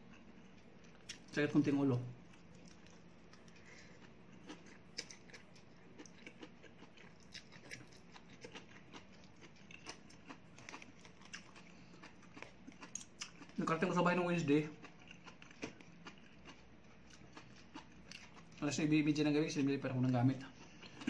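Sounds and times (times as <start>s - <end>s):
faint chewing: 0.0s - 1.4s, 2.2s - 13.9s, 14.6s - 18.7s, 20.3s - 21.0s.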